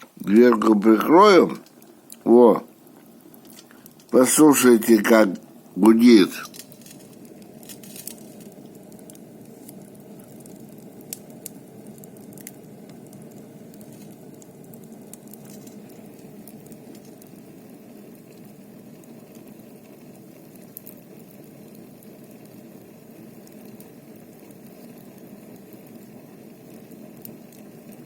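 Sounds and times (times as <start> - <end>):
faint fire crackles: 0.0 - 28.0
wood stove fire droning: 0.0 - 28.0.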